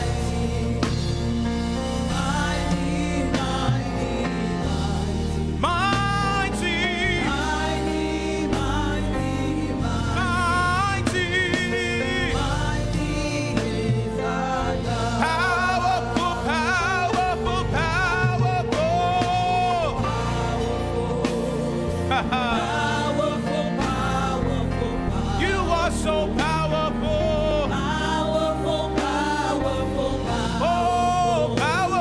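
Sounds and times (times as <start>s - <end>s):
band with bass and drums: 0.0s - 32.0s
person singing with vibrato: 0.0s - 32.0s.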